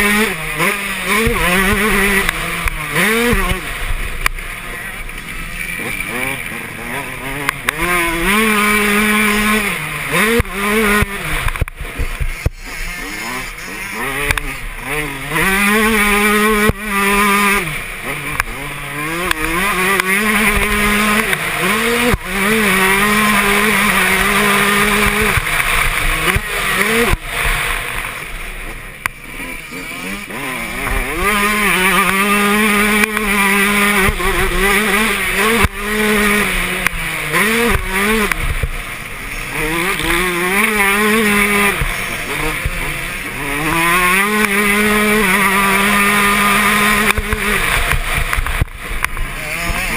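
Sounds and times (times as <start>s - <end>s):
motocross engine revving: 0.0s - 49.9s.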